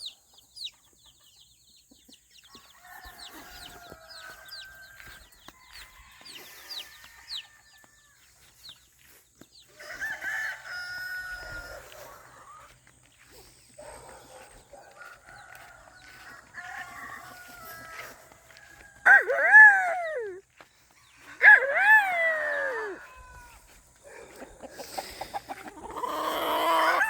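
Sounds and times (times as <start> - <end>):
hens clucking: 0.3 - 19.8, 20.5 - 27.0
roosters crowing: 2.4 - 27.0.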